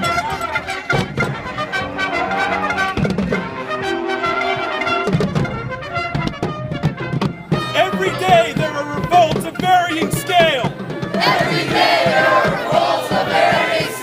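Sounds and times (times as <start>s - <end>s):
percussive beat: 0.0s - 1.9s, 4.4s - 14.0s
brass instruments music: 0.0s - 14.0s.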